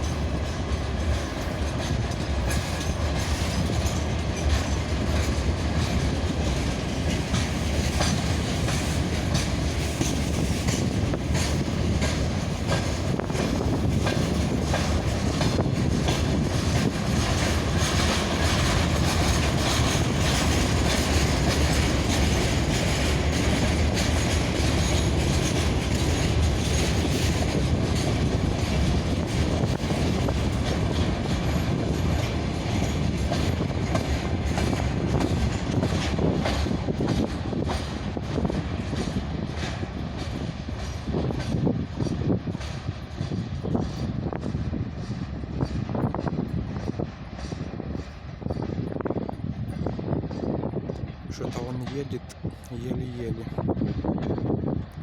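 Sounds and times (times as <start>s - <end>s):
train wheels clacking over rail joints: 0.0s - 55.0s.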